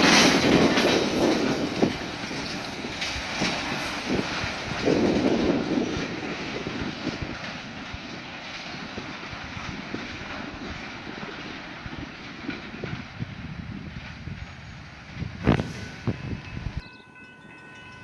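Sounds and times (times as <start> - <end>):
freight train wheels clattering: 0.0 - 18.0
train rumble: 0.0 - 18.0.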